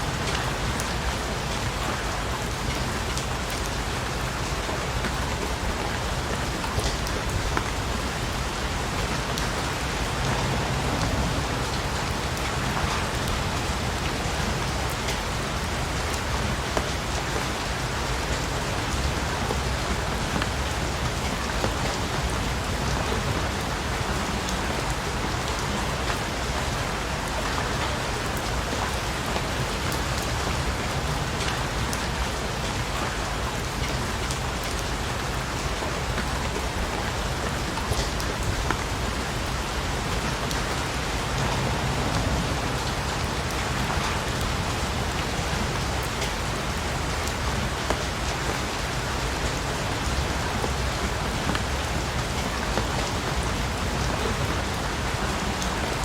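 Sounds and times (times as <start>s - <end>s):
rain hissing on surfaces: 0.0s - 56.0s.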